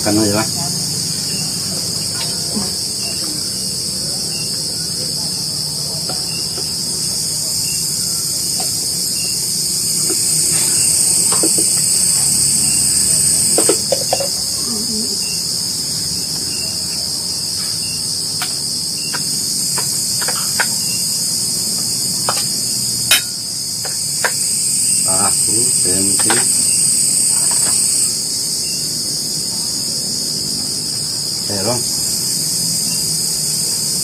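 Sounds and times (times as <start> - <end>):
insects shrilling: 0.0 - 34.0.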